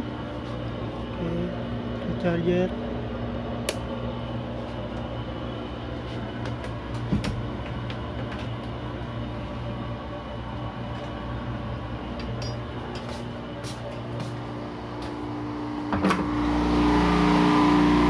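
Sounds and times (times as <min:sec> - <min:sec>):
machinery hum: 0:00.0 - 0:18.0.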